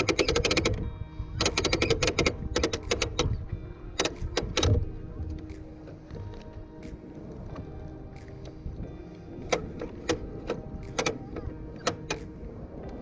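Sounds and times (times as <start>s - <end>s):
clicking percussion: 0.0s - 13.0s.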